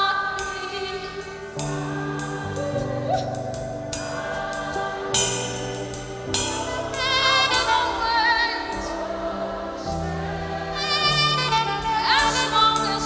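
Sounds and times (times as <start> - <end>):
held chords and bass: 1.4 - 13.0
cymbal crashes: 1.6 - 13.0.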